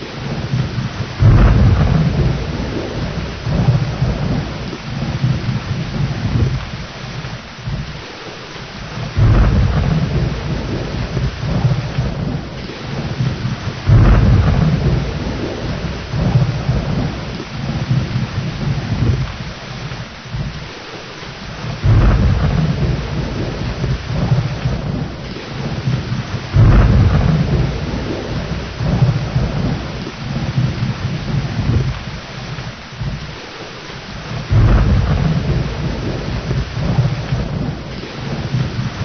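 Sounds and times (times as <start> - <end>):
rolling thunder: 0.0 - 20.8, 21.4 - 39.0
heavy rain: 0.0 - 39.0.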